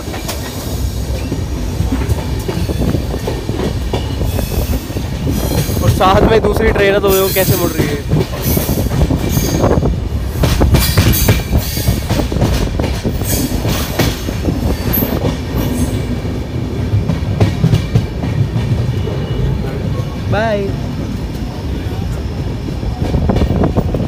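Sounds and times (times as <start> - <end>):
wheels clacking over rail joints: 0.0 - 20.3
train rumble: 0.0 - 24.0.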